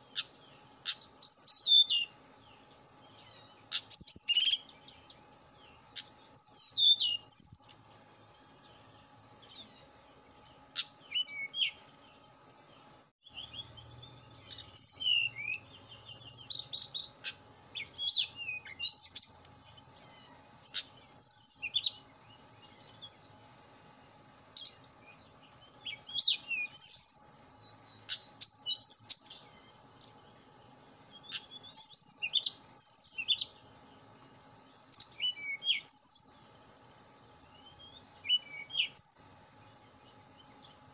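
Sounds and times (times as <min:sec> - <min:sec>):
bird singing whistled chirps: 0:00.0 - 0:07.8, 0:08.5 - 0:12.4, 0:13.2 - 0:33.6, 0:34.5 - 0:36.4, 0:37.0 - 0:39.4.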